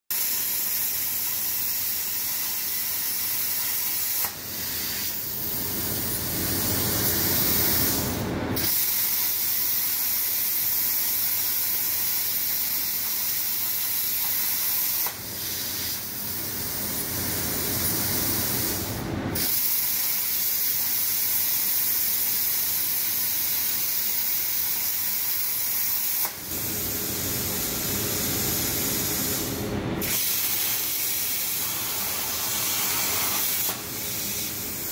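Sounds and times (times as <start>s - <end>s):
plasma torch hissing: 0.1s - 34.9s.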